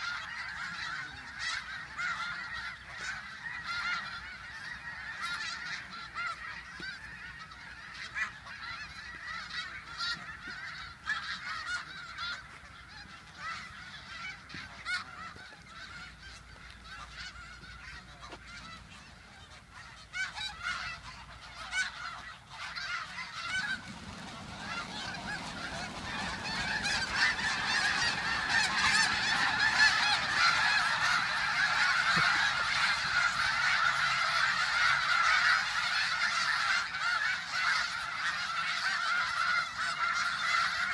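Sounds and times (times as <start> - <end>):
flock of geese honking: 0.0 - 40.9.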